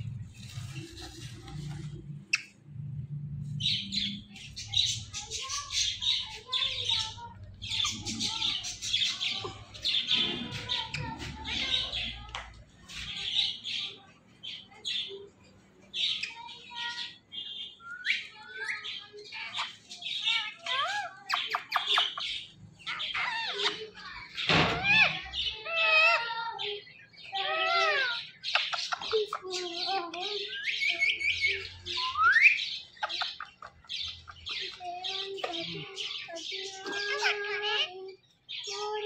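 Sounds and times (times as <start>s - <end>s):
parrots chattering and squawking: 3.4s - 39.0s.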